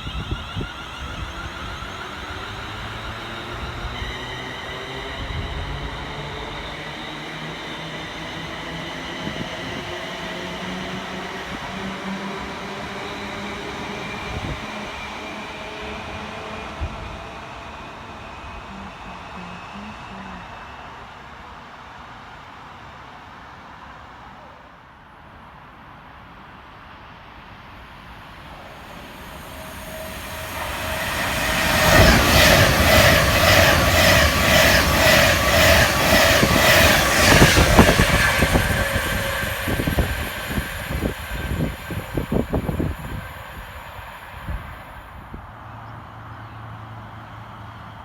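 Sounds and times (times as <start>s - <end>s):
train passing at speed: 0.0s - 48.0s.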